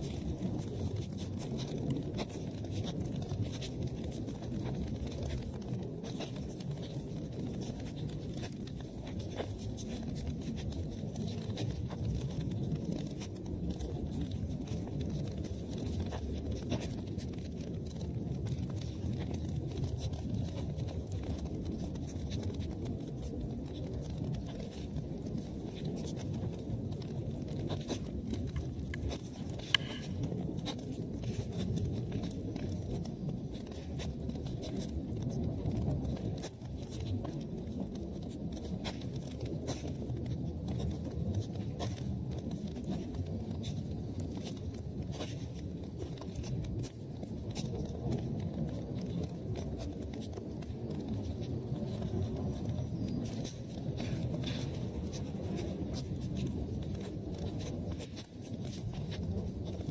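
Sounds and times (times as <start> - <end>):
fire crackles: 0.0 - 59.9
low rumble of flames: 0.0 - 59.9.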